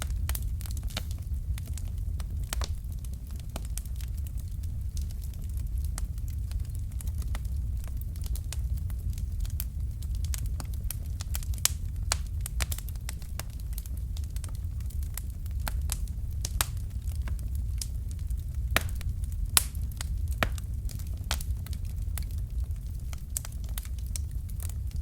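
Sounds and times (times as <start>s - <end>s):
fire flames rumbling: 0.0s - 25.0s
fire pops and snaps: 0.0s - 25.0s.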